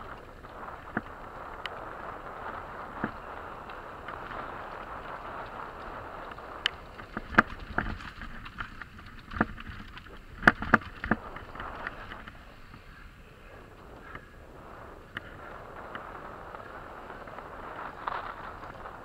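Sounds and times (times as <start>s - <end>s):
bike knocking and rattling: 0.0s - 19.0s
tyre and wind rush: 0.0s - 19.0s.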